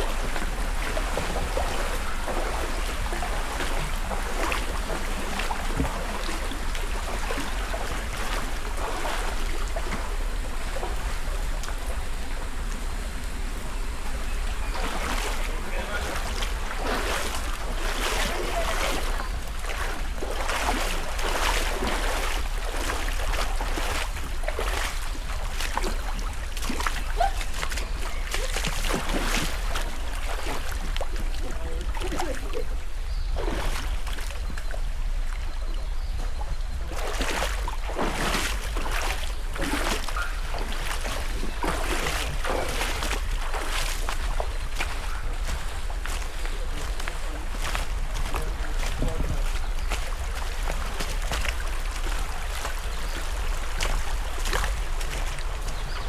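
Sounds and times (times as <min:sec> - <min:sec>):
water splashing from wading: 0:00.0 - 0:56.0.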